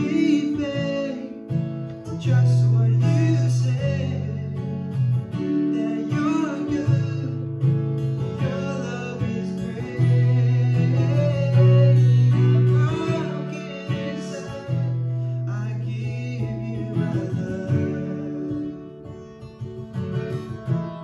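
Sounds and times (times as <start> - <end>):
man singing: 0.0 - 19.2
acoustic guitar strumming: 0.0 - 21.0.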